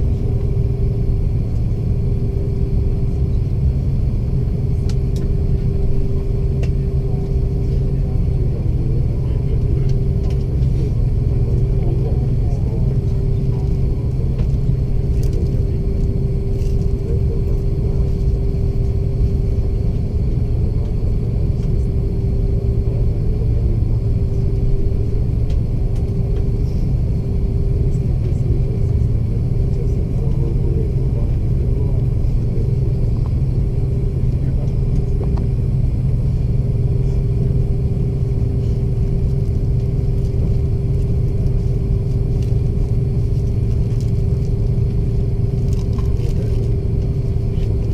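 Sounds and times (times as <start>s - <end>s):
airliner cabin engine rumble: 0.0s - 47.9s
steady hum: 0.0s - 47.9s.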